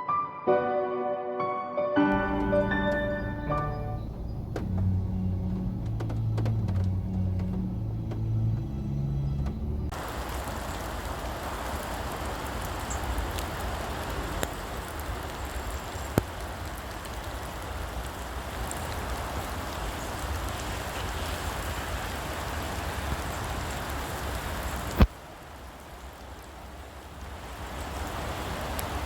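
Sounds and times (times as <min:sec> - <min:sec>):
heavy rain pouring: 0:02.2 - 0:09.1, 0:09.9 - 0:29.0.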